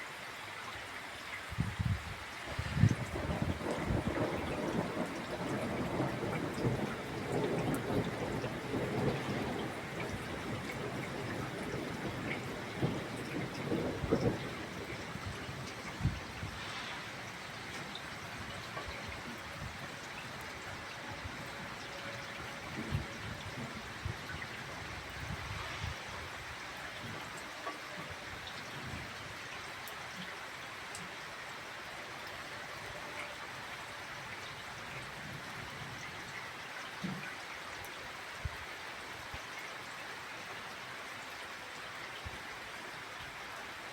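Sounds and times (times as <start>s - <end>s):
rain drops pattering: 0.0s - 43.9s
water trickling: 0.3s - 43.9s.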